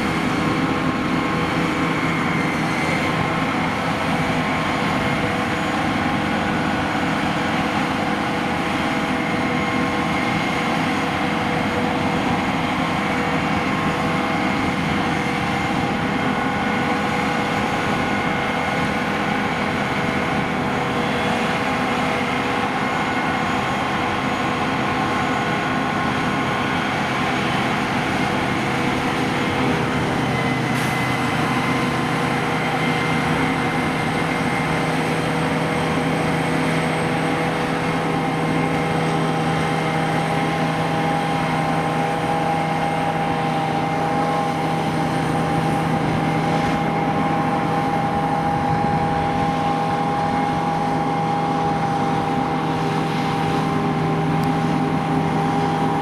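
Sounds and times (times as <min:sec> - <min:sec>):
diesel farm machinery running: 0:00.0 - 0:56.0.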